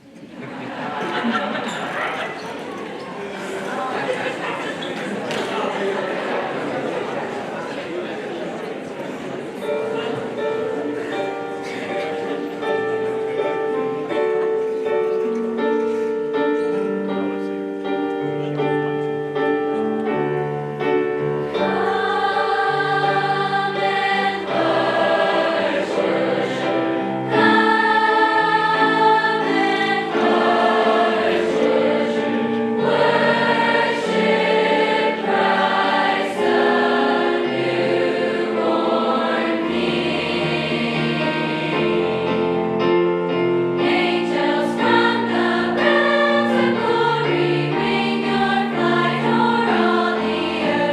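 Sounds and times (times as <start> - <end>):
choir singing: 0.0 - 15.0, 15.6 - 50.9
musical accompaniment: 9.5 - 50.9.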